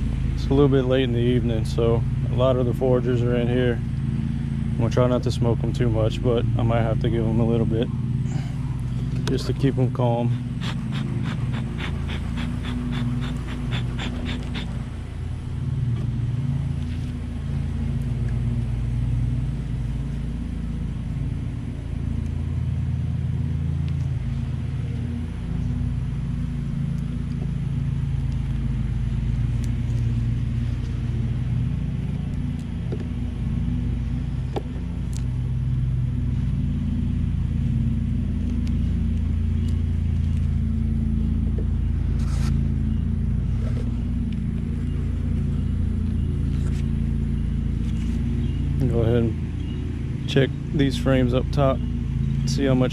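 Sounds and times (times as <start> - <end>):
honeybee colony humming: 0.0 - 52.9.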